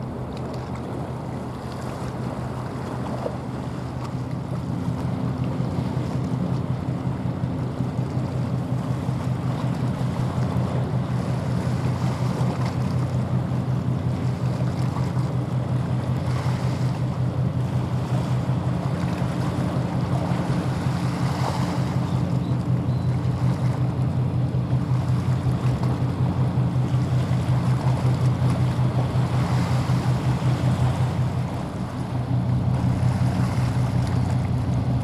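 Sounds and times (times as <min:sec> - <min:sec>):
ship engines throbbing: 0:00.0 - 0:35.0
water noise: 0:00.0 - 0:35.0
wind: 0:00.0 - 0:35.0.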